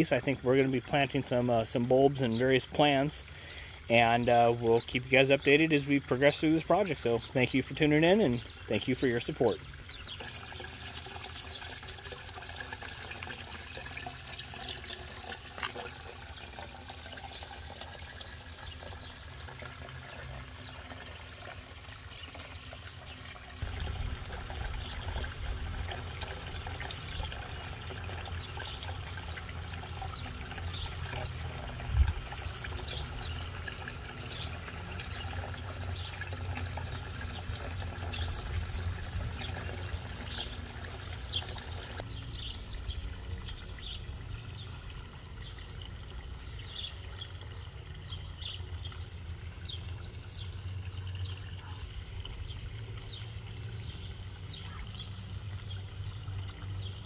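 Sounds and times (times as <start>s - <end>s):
water spilling into a pond: 0.0s - 57.0s.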